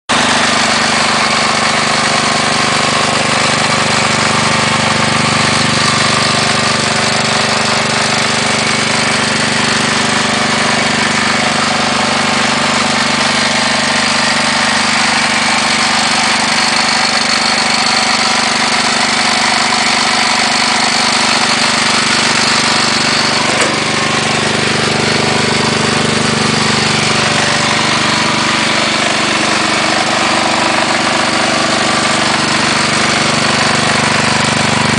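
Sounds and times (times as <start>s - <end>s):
tractor engine idling with knock: 0.1s - 34.9s.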